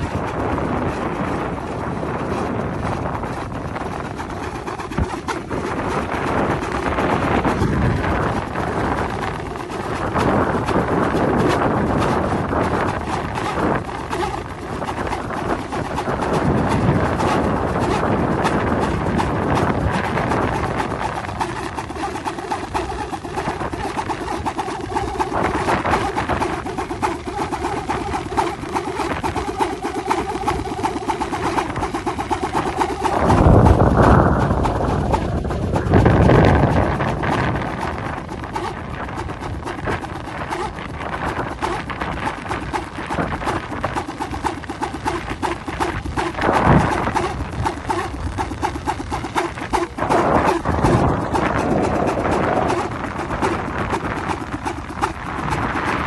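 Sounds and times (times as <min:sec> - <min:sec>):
wind noise on microphone: 0:00.0 - 0:56.0
wooden propeller whirring: 0:00.0 - 0:56.0.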